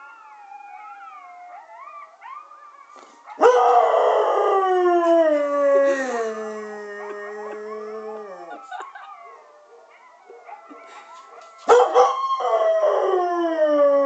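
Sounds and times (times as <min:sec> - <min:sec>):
dog howling: 0:00.0 - 0:14.0.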